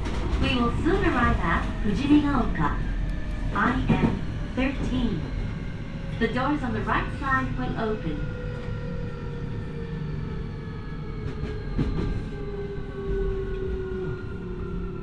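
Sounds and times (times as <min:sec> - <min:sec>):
wheels rumbling on rails: 0:00.0 - 0:15.0.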